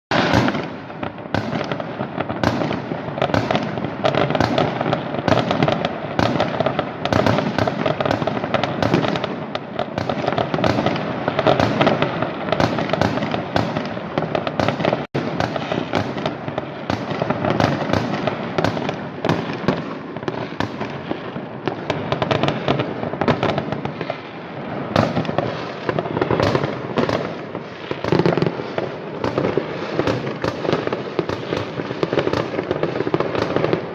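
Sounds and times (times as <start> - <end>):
fireworks crackling and banging: 0.1 - 33.9.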